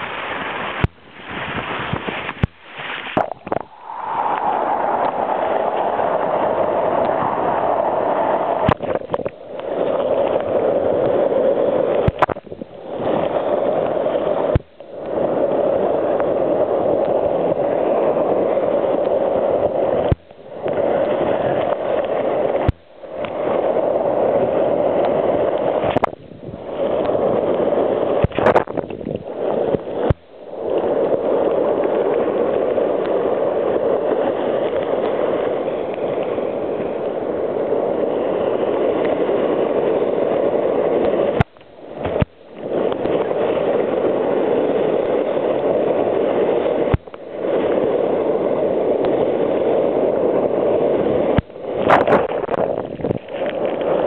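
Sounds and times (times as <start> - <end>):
whitewater rushing and splashing: 0.0 - 54.0.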